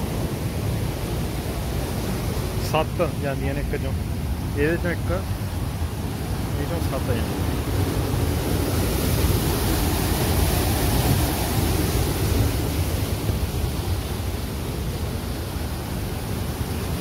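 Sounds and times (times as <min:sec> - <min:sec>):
water rushing through sluice gates: 0:00.0 - 0:17.0.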